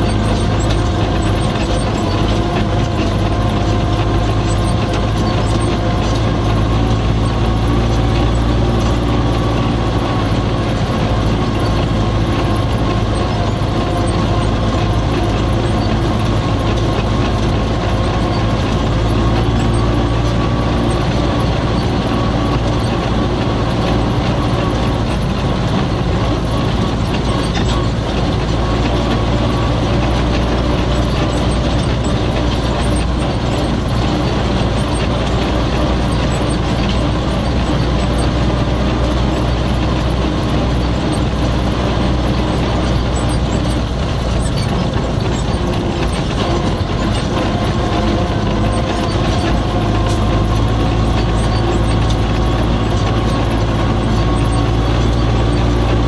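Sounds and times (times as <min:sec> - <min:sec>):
cab and controls rattling: 0:00.0 - 0:56.0
diesel tractor engine running: 0:00.0 - 0:56.0.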